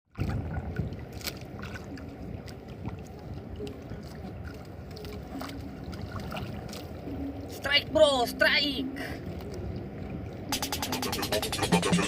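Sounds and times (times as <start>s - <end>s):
wind: 0.0s - 11.4s
water around a boat: 0.0s - 12.0s.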